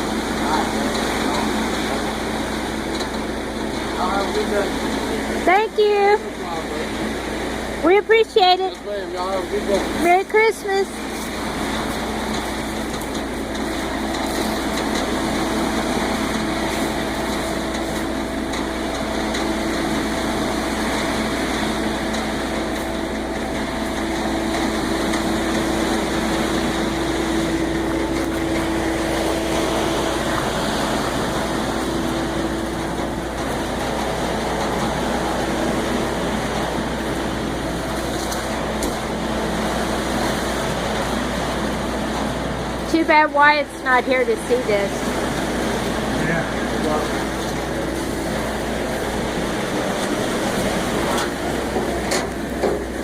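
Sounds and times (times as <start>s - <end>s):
truck engine humming: 0.0s - 53.0s.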